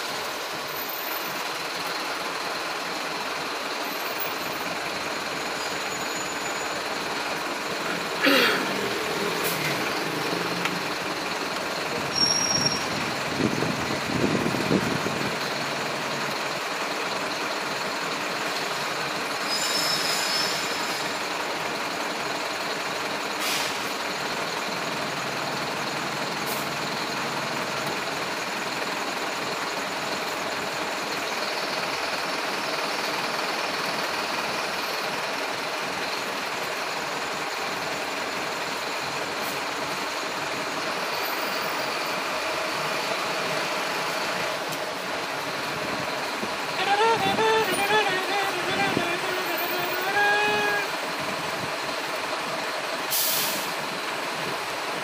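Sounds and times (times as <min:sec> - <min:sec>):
traffic engines idling: 0:00.0 - 0:55.0.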